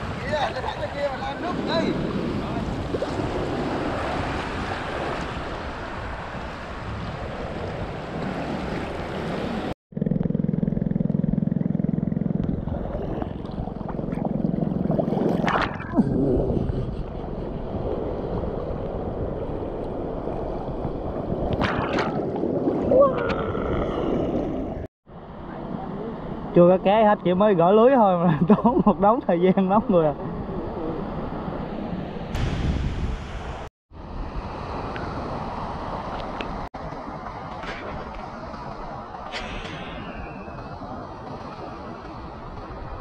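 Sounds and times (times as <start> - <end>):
wind on microphone: 0.0 - 9.7, 12.0 - 24.9, 30.1 - 43.0.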